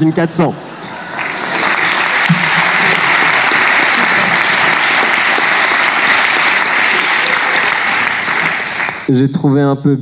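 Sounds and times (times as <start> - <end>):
audience applauding: 0.8 - 9.1.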